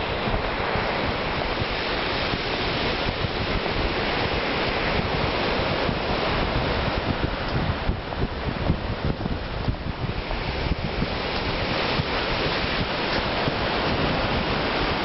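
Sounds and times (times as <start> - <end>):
sea surf: 0.0 - 15.0
wind gusting against microphone: 0.0 - 15.0
wind rushing: 0.0 - 15.0.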